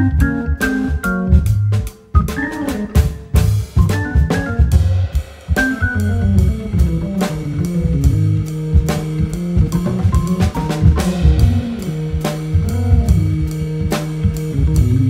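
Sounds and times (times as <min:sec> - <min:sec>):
drum kit beat with cymbals: 0:00.0 - 0:15.0
organ chords and bass line: 0:00.0 - 0:15.0.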